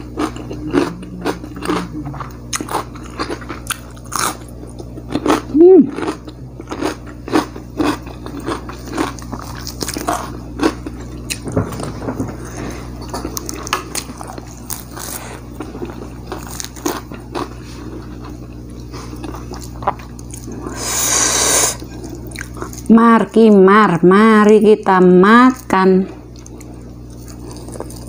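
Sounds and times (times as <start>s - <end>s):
chewing and biting crunches: 0.0s - 22.9s, 26.3s - 28.0s
steady low hum: 0.0s - 28.0s.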